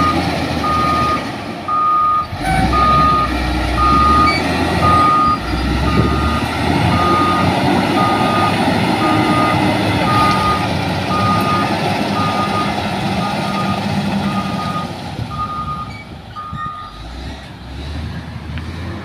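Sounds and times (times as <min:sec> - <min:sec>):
backup alarm beeping: 0:00.0 - 0:16.9
diesel engine running: 0:00.0 - 0:19.0.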